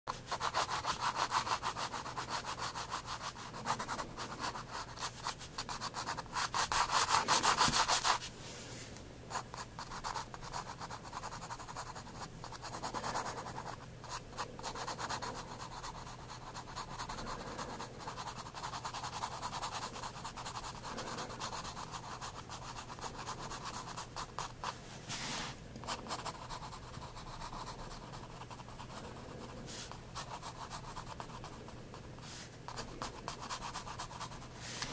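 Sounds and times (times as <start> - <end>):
pencil scratching on paper: 0.1 - 8.3, 9.3 - 24.8, 25.8 - 32.1, 32.7 - 34.9.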